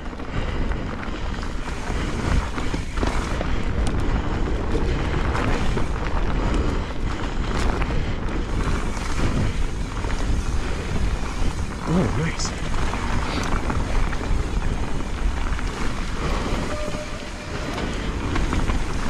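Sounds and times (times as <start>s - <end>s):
bike rattle: 0.0s - 19.0s
wind rushing over microphone: 0.0s - 19.0s.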